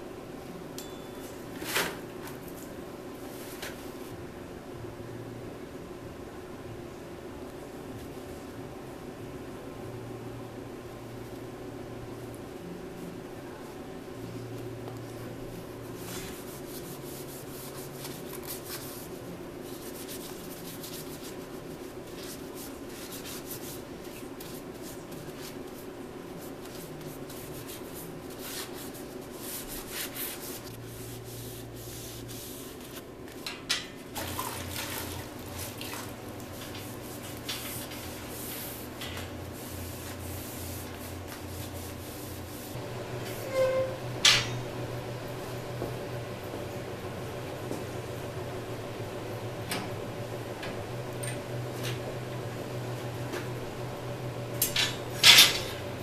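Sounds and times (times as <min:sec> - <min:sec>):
low shop hum: 0:00.0 - 0:56.0.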